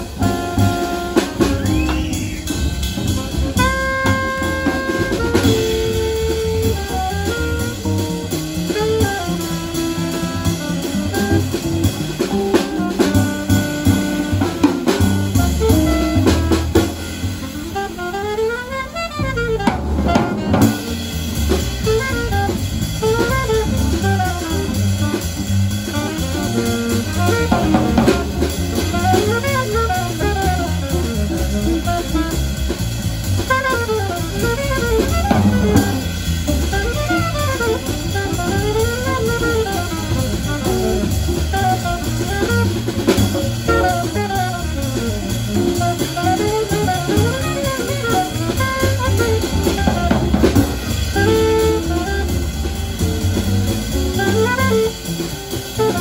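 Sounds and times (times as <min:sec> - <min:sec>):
alto saxophone fast runs: 0:00.0 - 0:56.0
drum kit: 0:00.0 - 0:56.0
hollow-body guitar: 0:00.0 - 0:56.0
upright bass: 0:00.0 - 0:56.0.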